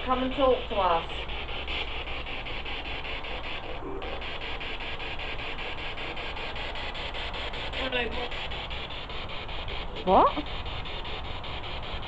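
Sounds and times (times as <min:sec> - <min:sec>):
chopped radio static hiss: 0:00.0 - 0:12.0.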